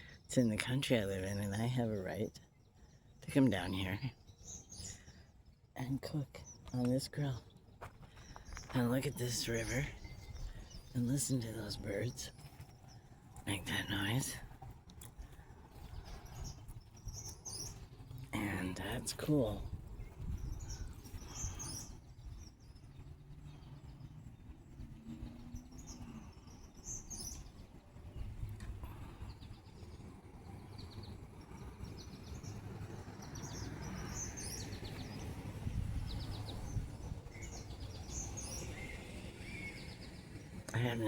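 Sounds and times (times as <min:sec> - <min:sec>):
birds chirping and trilling: 0:00.0 - 0:41.0
low outdoor rumble: 0:00.0 - 0:41.0.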